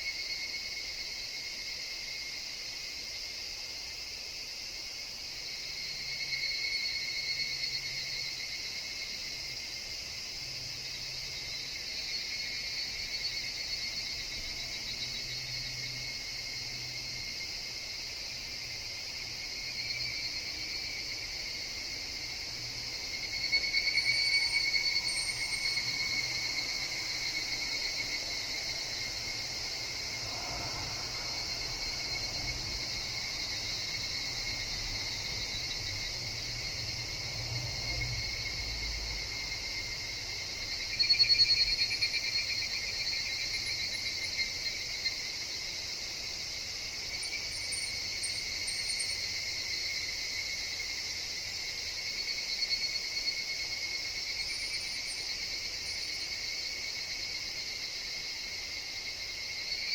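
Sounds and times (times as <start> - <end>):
evening cicadas calling: 0.0 - 59.9.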